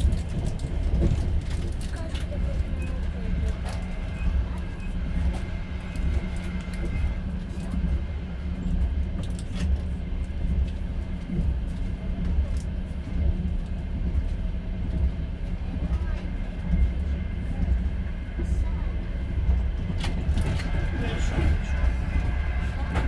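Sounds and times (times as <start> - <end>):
train rumbling: 0.0 - 23.0
wheels clicking on track: 0.0 - 23.0.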